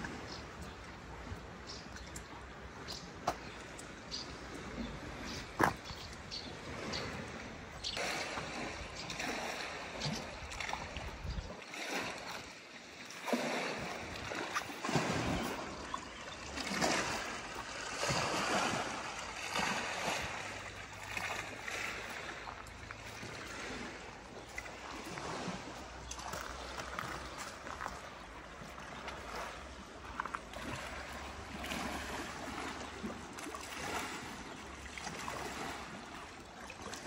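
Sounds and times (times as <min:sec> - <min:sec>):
lake water lapping against stone: 0:00.0 - 0:37.0.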